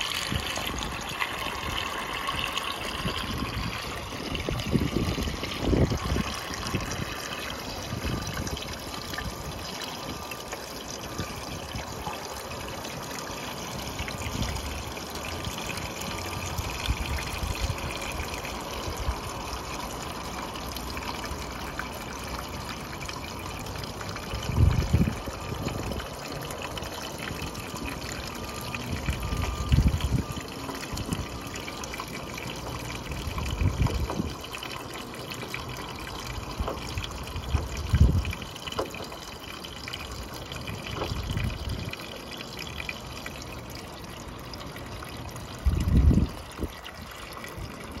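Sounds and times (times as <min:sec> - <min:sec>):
water trickling through gutter: 0:00.0 - 0:48.0.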